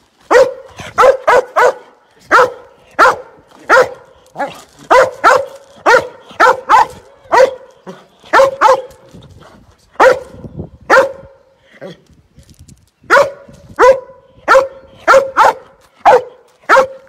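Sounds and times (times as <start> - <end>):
dog barking: 0.3 - 8.9, 10.0 - 11.4, 13.1 - 17.0.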